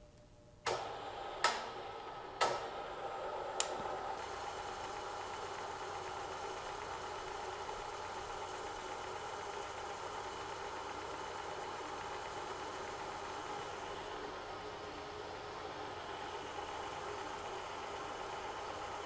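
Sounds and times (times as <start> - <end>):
milling machine whine: 0.7 - 19.0.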